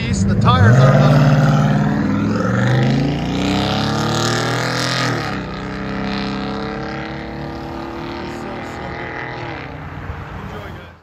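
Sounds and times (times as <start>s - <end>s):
truck engine accelerating: 0.0s - 10.6s.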